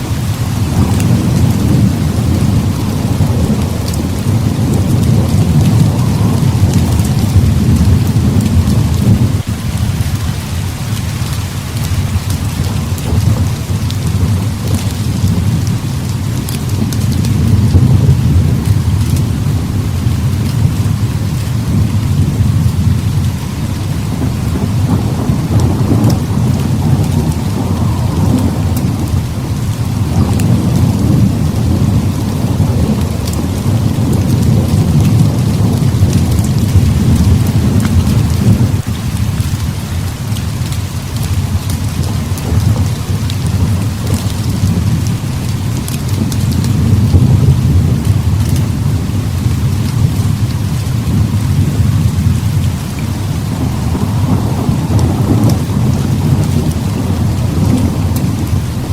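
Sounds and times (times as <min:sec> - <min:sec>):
heavy rain falling: 0:00.0 - 0:58.9
rolling thunder: 0:00.0 - 0:58.9.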